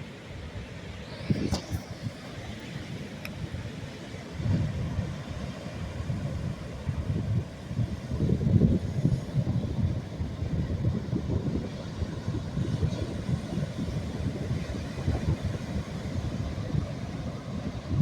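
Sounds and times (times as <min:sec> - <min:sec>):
ocean waves on shore: 0:00.0 - 0:18.0
wind buffeting microphone: 0:00.0 - 0:18.0.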